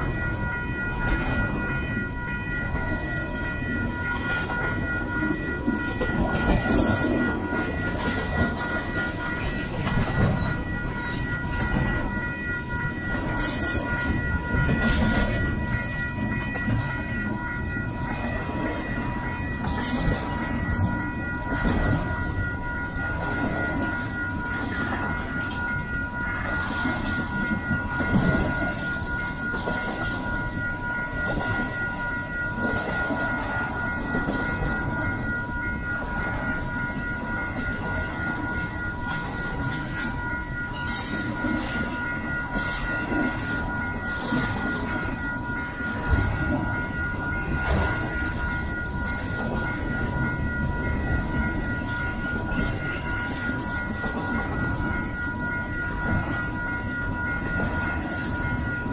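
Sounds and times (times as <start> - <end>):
high-pitched ringing tone: 0.0 - 58.9
rail car clanks and knocks: 0.0 - 58.9
train wheels rumbling on rail: 0.0 - 58.9.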